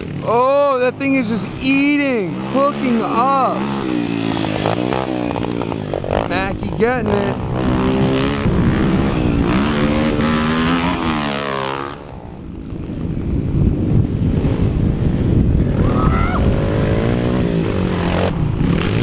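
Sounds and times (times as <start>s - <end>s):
small motorbike engines revving: 0.0s - 19.0s.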